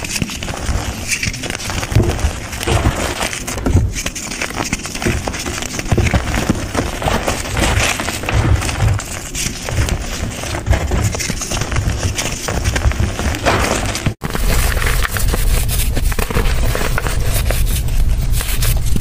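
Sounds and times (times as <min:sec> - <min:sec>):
gritty crunching and rustling powder: 0:00.0 - 0:19.0.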